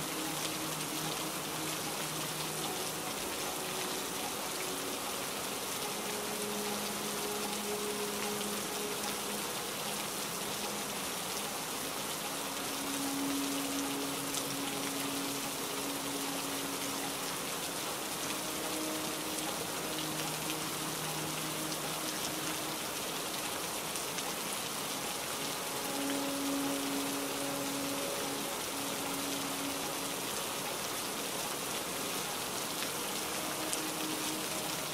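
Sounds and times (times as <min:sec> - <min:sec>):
heavy rain falling: 0:00.0 - 0:34.9
slow music of low held notes: 0:00.0 - 0:34.9.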